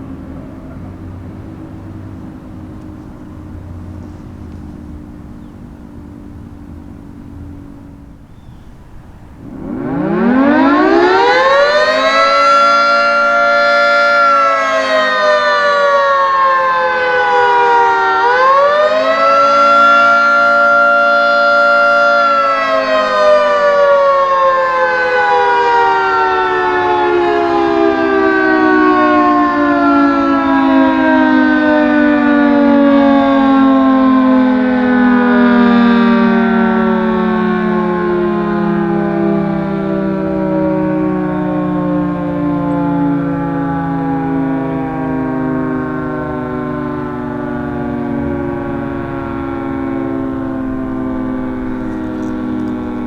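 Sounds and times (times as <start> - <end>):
three-tone fire siren: 0.0 - 53.0.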